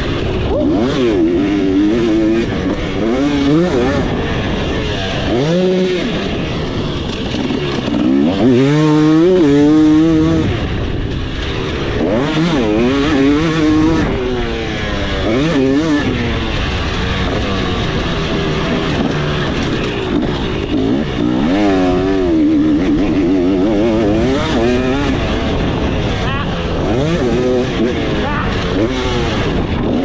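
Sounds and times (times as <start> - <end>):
dirt bike engine revving: 0.0 - 30.0
wind and riding noise: 0.0 - 30.0.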